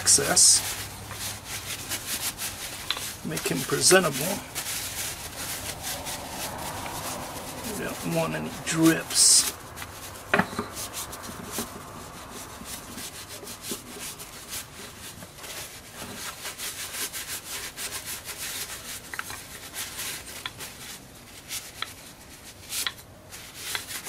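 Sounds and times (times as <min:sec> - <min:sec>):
paper towel rubbing wood: 0:00.0 - 0:24.0.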